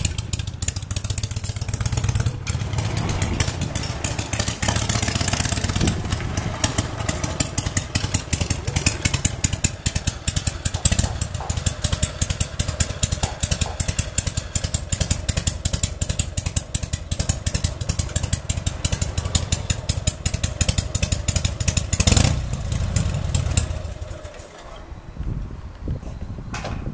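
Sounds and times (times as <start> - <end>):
motorcycle engine revving: 0.0 - 24.8
motorcycle engine idling: 0.0 - 25.2.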